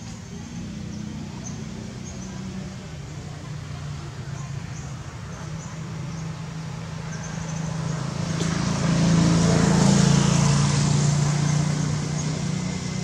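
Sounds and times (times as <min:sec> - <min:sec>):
vehicle engine hum passing: 0:00.0 - 0:13.0.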